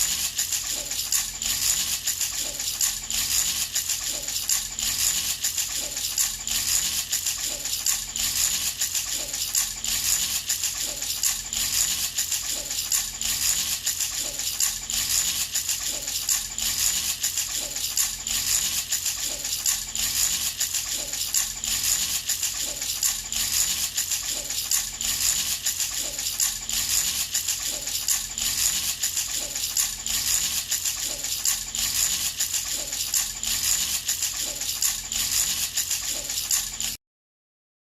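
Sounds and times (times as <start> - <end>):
baby rattle shaken: 0.0 - 37.0.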